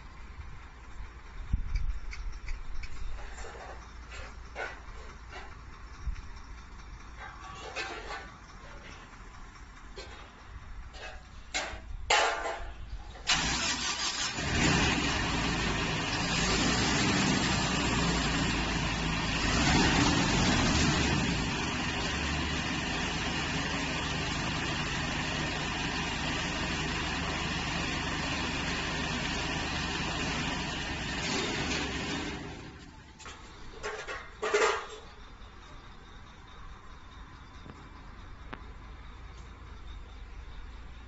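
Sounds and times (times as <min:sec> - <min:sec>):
harvester engine running: 0:00.0 - 0:41.0.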